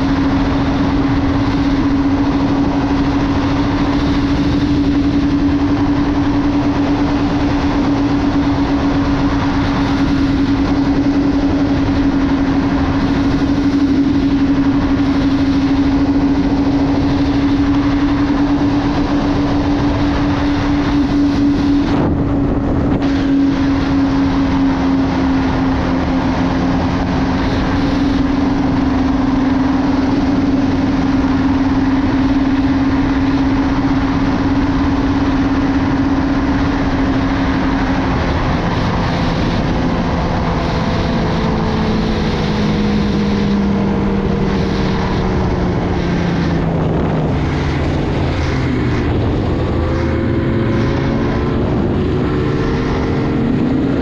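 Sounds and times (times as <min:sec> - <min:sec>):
rush of track and air: 0:00.0 - 0:54.0
snowmobile engine drone: 0:00.0 - 0:54.0.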